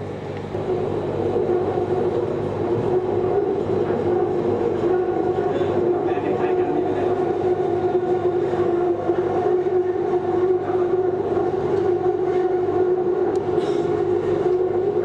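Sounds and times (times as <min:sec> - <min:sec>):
train whine: 0:00.0 - 0:15.0.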